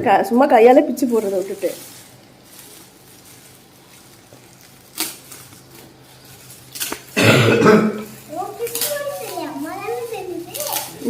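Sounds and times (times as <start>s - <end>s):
gift wrapping rustling: 0.3s - 11.0s.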